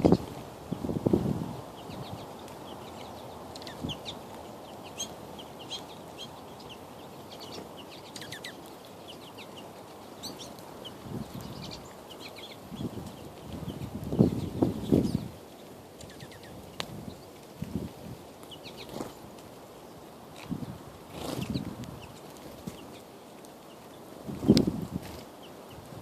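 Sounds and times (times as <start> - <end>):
small birds chirping: 0.0 - 26.0
steady background hiss: 0.0 - 26.0.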